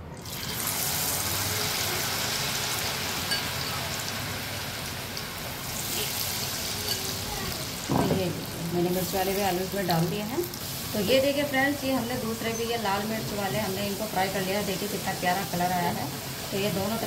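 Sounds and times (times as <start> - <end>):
deep-frying sizzle and bubbling: 0.0 - 17.0.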